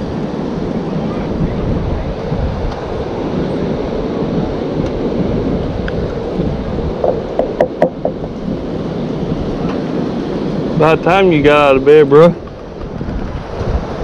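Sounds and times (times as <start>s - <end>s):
ocean surf: 0.0s - 14.0s
wind buffeting microphone: 0.0s - 14.0s.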